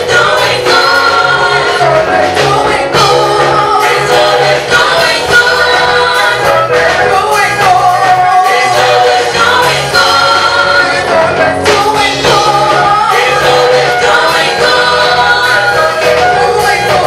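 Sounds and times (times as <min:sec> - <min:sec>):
choir singing gospel: 0:00.0 - 0:17.0
instrumental backing with bass: 0:00.0 - 0:17.0.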